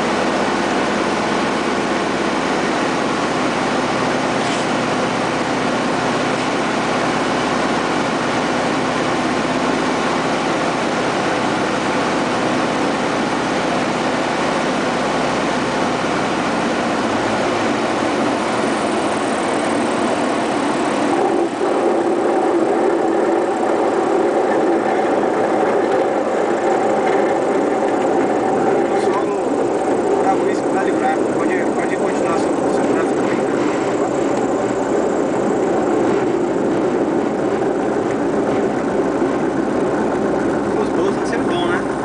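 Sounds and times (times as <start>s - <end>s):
small plane engine and propeller: 0.0s - 42.0s
wind noise: 0.0s - 42.0s.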